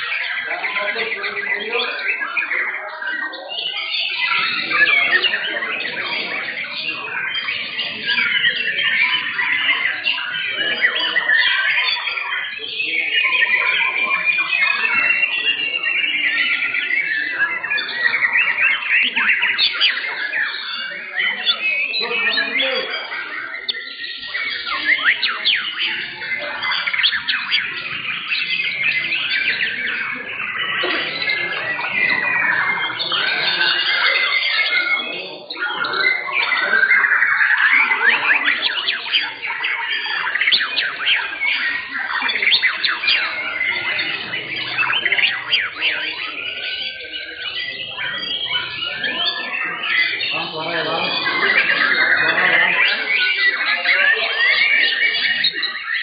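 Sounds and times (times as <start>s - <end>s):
birds singing: 0.0s - 56.0s.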